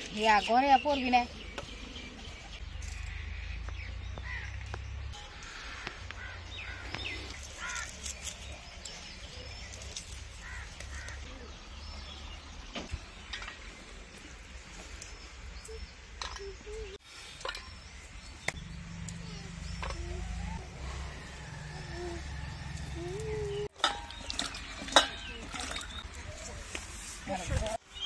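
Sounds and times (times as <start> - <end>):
birds calling: 0.0 - 28.0.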